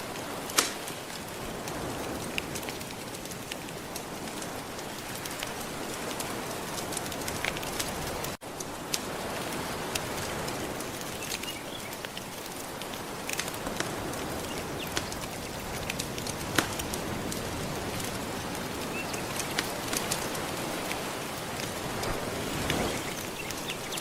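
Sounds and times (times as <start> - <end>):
gentle ocean waves: 0.0 - 24.0
wood fire crackling and popping: 0.0 - 24.0.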